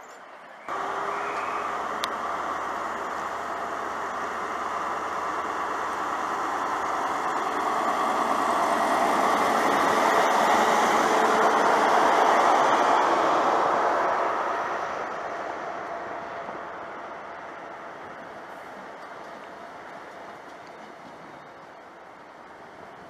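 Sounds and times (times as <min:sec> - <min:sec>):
train diesel engine hum: 0:00.0 - 0:23.0.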